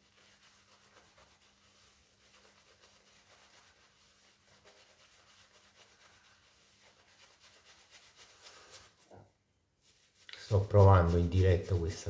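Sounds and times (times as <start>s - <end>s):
shaving brush scratchy swish: 0.0s - 9.1s, 9.8s - 12.0s.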